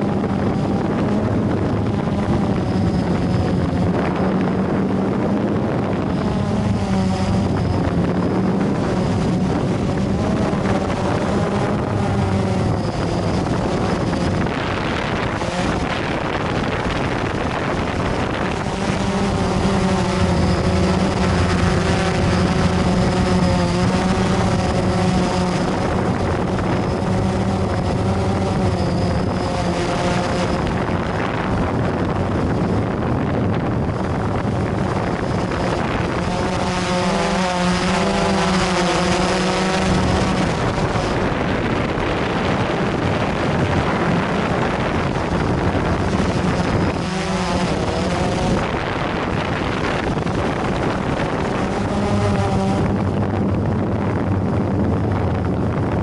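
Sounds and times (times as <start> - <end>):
drone motors buzzing: 0.0 - 56.0
wind on microphone: 0.0 - 56.0.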